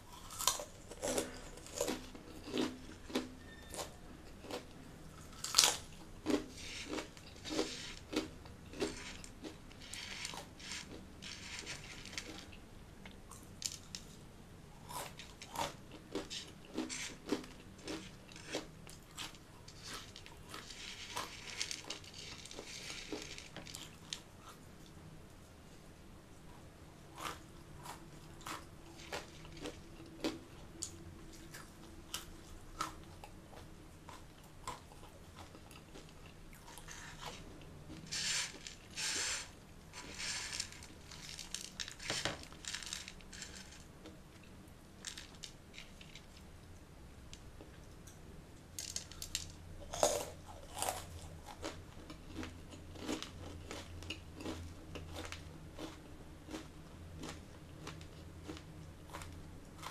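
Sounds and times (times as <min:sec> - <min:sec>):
crunchy chewing: 0:00.0 - 0:12.5, 0:14.8 - 0:24.6, 0:27.1 - 0:44.5, 0:49.8 - 0:59.9.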